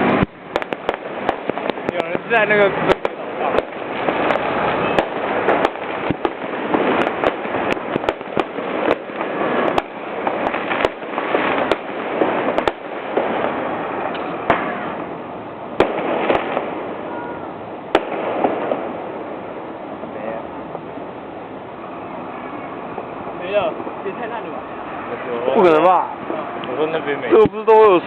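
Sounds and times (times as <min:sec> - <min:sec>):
fireworks popping and banging: 0:00.0 - 0:21.0, 0:21.8 - 0:28.0
crackling rumble of explosions: 0:00.0 - 0:28.0.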